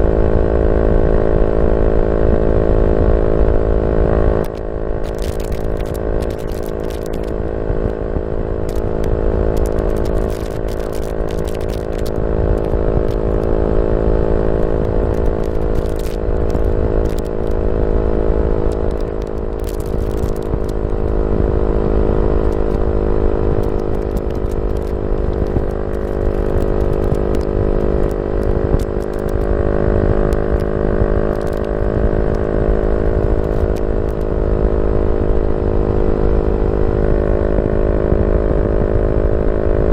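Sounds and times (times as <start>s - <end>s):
motorcycle engine running: 0.0s - 39.9s
exhaust crackles: 0.7s - 39.8s.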